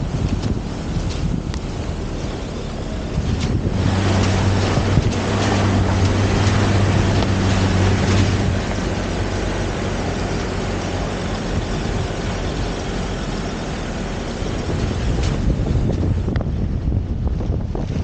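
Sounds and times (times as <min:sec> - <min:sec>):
car engine hum: 0:00.0 - 0:18.0
rushing water: 0:00.0 - 0:18.0
wind noise on microphone: 0:00.0 - 0:18.0.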